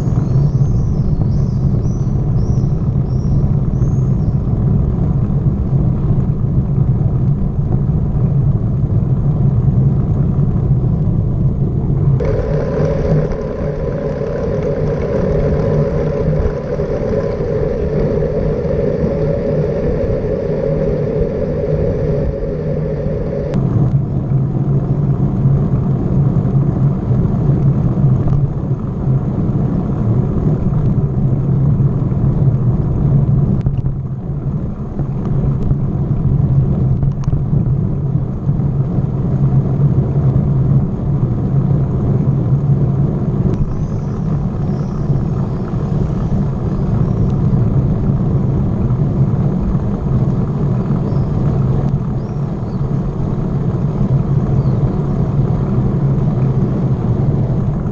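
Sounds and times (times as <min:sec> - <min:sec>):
wind and road rumble: 0:00.0 - 0:57.9.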